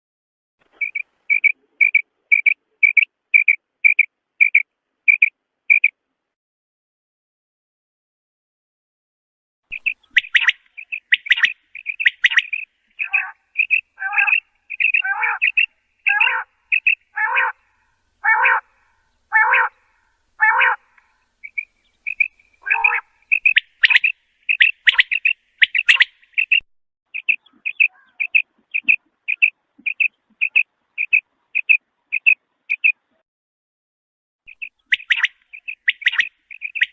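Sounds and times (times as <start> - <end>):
birds chirping: 0.6 - 5.9, 9.7 - 33.1, 34.5 - 36.9.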